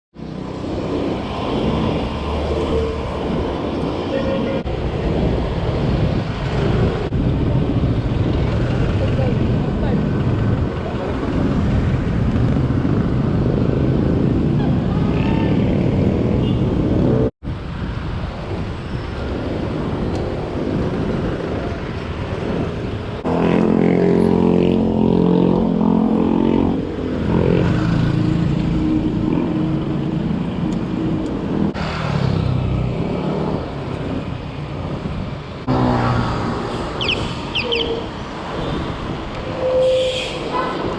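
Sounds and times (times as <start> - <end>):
road traffic rumble: 0.2 - 40.9.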